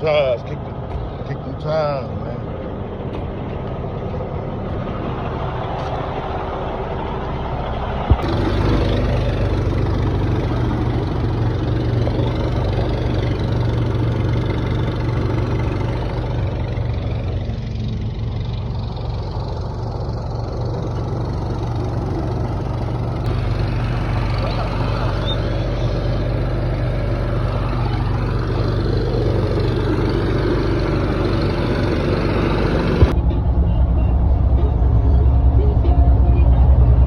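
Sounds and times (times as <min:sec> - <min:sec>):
diesel truck engine idling: 0:00.0 - 0:37.0.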